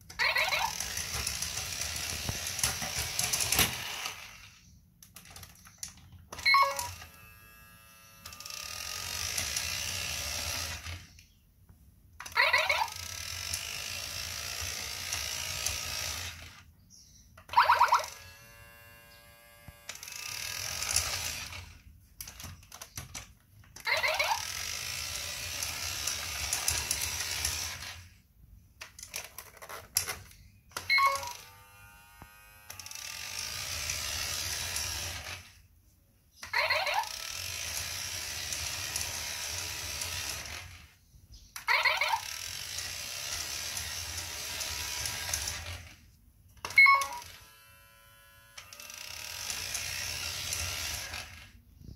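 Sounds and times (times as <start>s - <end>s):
toy robot motor whirring: 0.0s - 11.4s, 12.2s - 28.2s, 28.8s - 35.7s, 36.3s - 51.9s.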